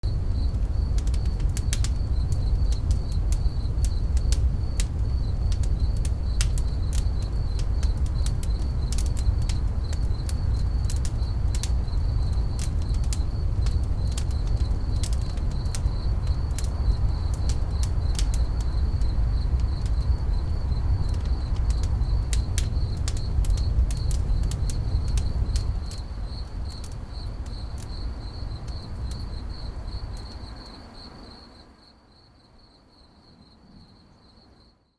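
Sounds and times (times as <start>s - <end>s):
campfire crackling and popping: 0.0s - 30.5s
cricket chirping: 0.0s - 34.9s.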